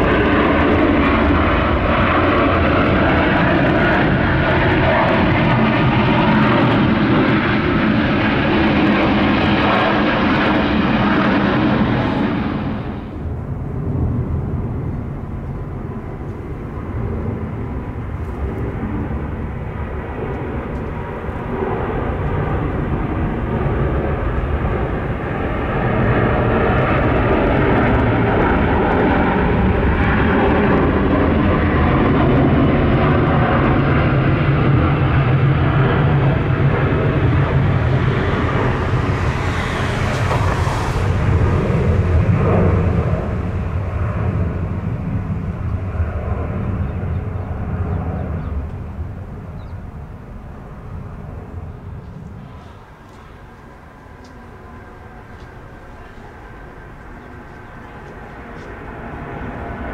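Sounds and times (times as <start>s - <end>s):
jet roar overhead: 0.0s - 59.9s.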